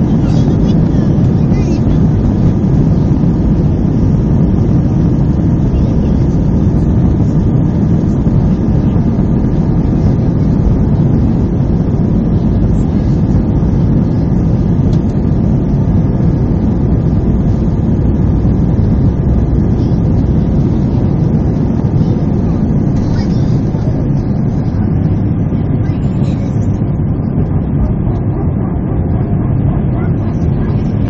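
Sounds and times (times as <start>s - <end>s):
airliner engines rumbling: 0.0s - 31.0s
faint whine: 0.0s - 31.0s.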